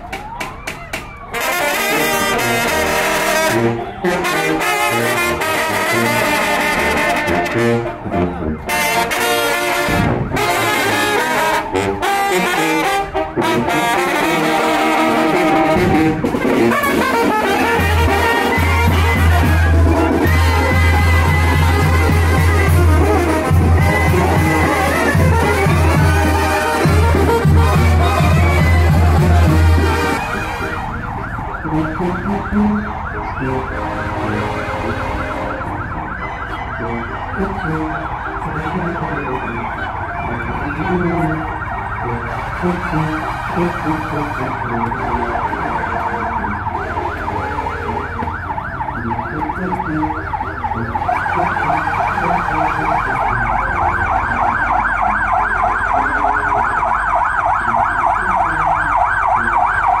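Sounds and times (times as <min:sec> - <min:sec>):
vehicle siren yelping: 0:00.0 - 1:00.0.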